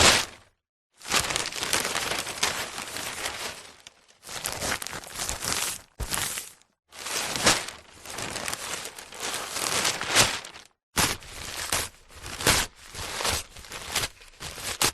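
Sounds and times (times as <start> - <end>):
newspaper rustling and crinkling: 1.0 - 14.9.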